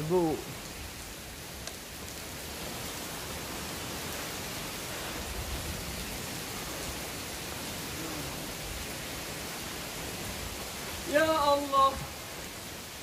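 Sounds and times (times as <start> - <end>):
water rushing in gorge: 0.0 - 13.0.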